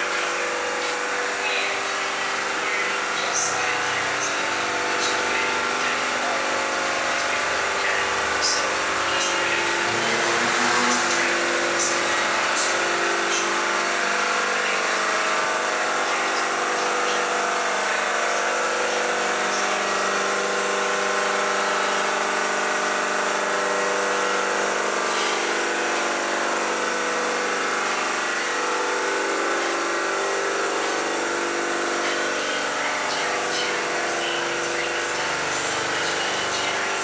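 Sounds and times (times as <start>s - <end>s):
high-pitched whine: 0.0s - 37.0s
machine humming: 0.0s - 37.0s.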